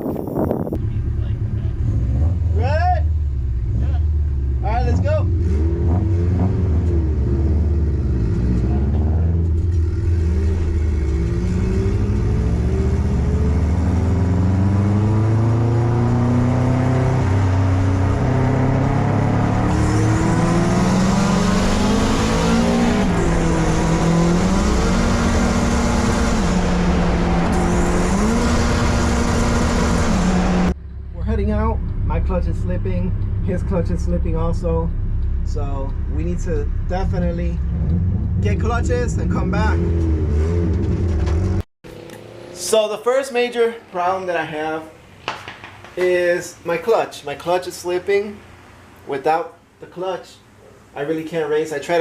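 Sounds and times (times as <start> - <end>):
car engine revving: 0.8 - 42.8.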